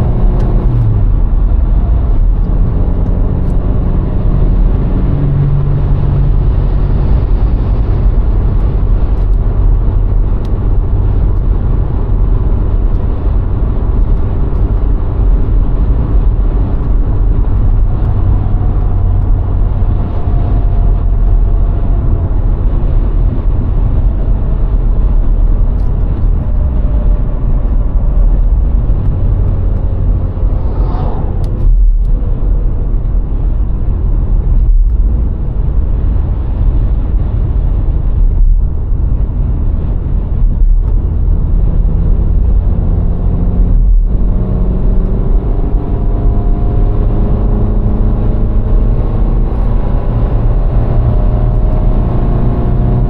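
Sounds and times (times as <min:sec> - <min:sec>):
car engine running: 0:00.0 - 0:53.0
road noise rumble: 0:00.0 - 0:53.0.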